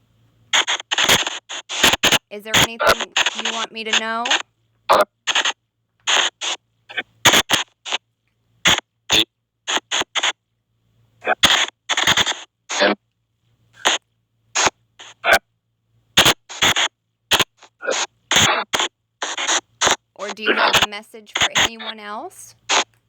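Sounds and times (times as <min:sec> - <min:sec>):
choppy white noise bursts: 0:00.1 - 0:04.5, 0:05.2 - 0:08.0, 0:08.6 - 0:10.4, 0:11.2 - 0:13.0, 0:13.8 - 0:15.3, 0:16.2 - 0:23.0.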